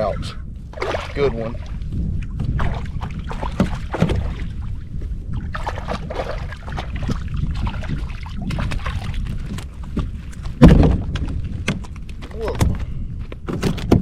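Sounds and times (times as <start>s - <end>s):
water splashing around a kayak: 0.7s - 11.9s.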